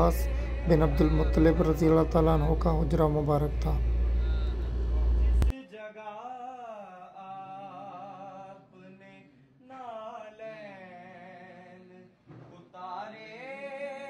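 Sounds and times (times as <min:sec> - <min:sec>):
person singing unaccompanied: 0:00.0 - 0:14.0.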